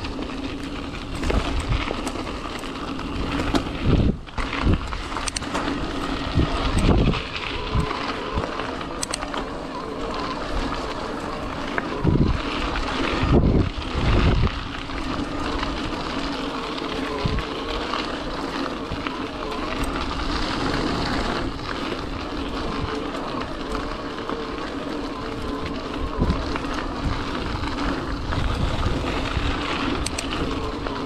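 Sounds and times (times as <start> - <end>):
faint wavering motor whine: 0.0 - 31.0
wind buffeting microphone: 0.0 - 31.0.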